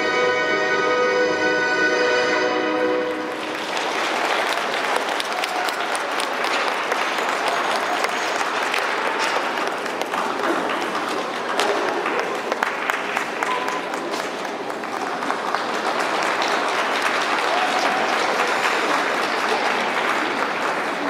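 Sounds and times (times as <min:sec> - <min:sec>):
audience applauding: 0:02.9 - 0:21.0.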